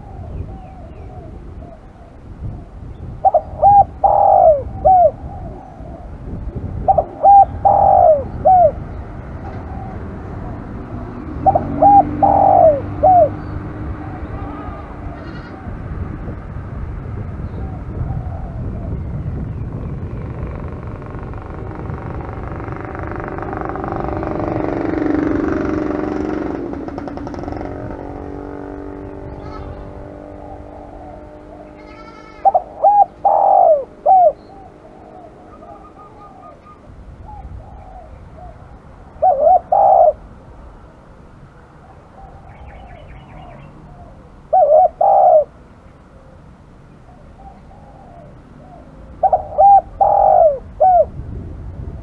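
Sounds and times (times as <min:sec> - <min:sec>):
dove cooing: 0:00.0 - 0:16.0, 0:17.4 - 0:19.2, 0:19.8 - 0:40.6, 0:41.8 - 0:51.2.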